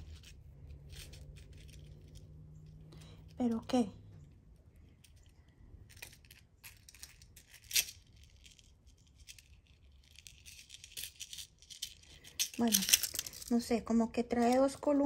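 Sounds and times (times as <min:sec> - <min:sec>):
necklace chain clinking: 0:00.0 - 0:03.9, 0:04.9 - 0:15.0.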